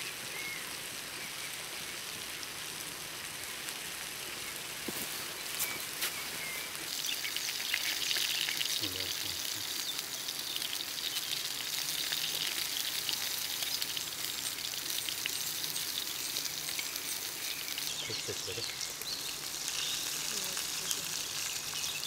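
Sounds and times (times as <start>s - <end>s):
fire crackling and sizzling: 0.0s - 22.0s.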